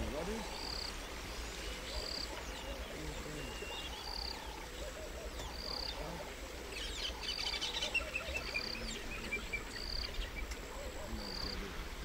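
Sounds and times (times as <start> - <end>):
flurry of bird chirps: 0.0 - 12.0
low warbling bird calls: 0.0 - 12.0
run of evenly spaced bird notes: 0.0 - 12.0.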